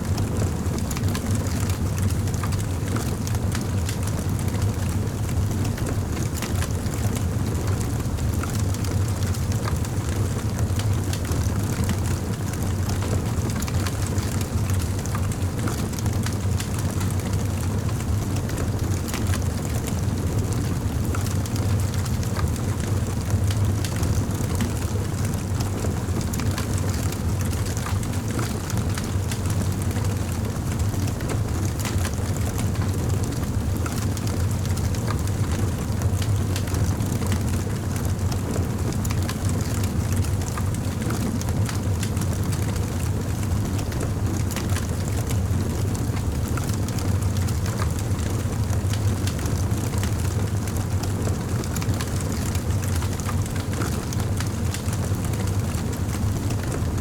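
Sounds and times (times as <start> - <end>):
campfire burning: 0.1 - 57.0.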